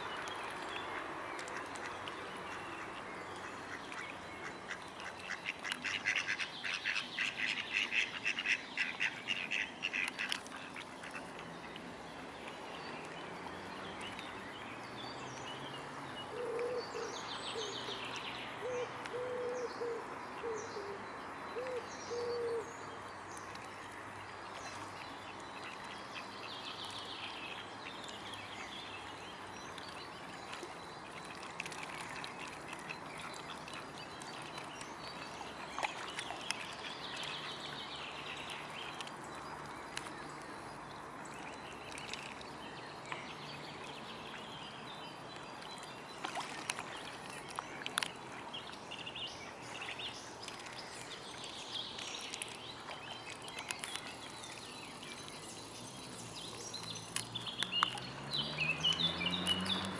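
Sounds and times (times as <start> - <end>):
water splashes: 0.0 - 16.4, 22.8 - 59.9.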